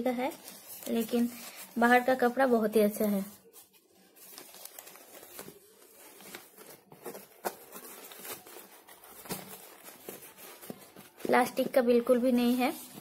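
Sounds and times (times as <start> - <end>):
fabric bag rustling: 0.3 - 13.0.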